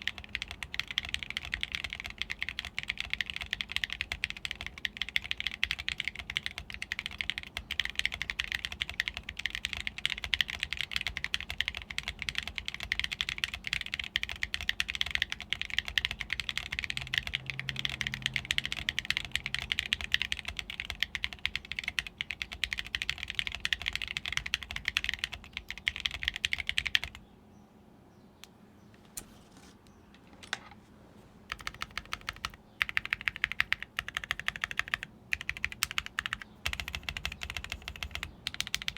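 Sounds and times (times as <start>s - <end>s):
fast typing on mechanical keyboard: 0.0s - 27.2s, 31.5s - 38.9s.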